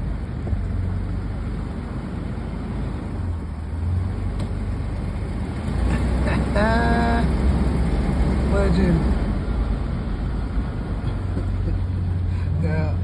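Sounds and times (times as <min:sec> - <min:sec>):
road noise: 0:00.0 - 0:13.0
vehicle engine droning: 0:00.0 - 0:13.0.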